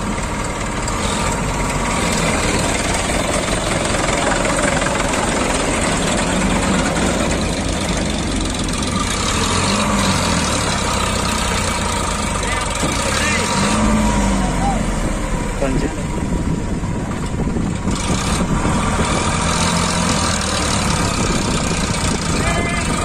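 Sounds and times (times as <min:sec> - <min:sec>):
backhoe loader engine: 0:00.0 - 0:23.0
tractor diesel engine running: 0:00.0 - 0:23.0.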